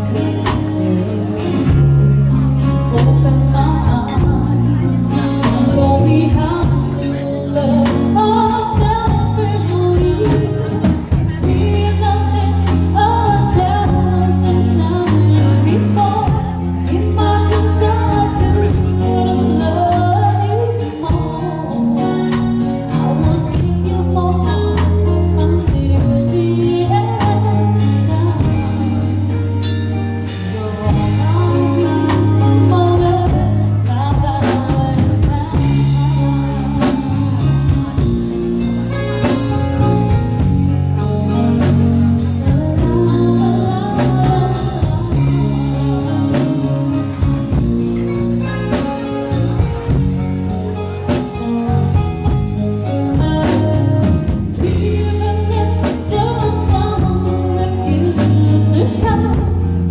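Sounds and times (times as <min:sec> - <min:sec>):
woman singing into a microphone: 0:00.0 - 0:29.6, 0:30.3 - 0:50.1, 0:50.7 - 0:59.9
live band playing: 0:00.0 - 0:59.9
steady bass notes: 0:00.0 - 0:59.9.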